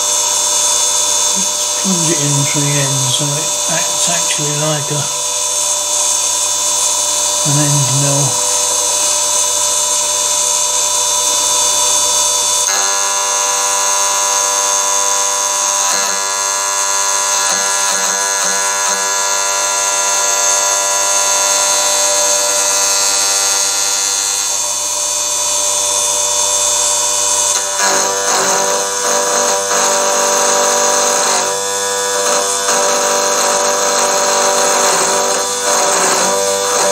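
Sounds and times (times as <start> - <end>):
electric spindle whining: 0.0 - 36.9.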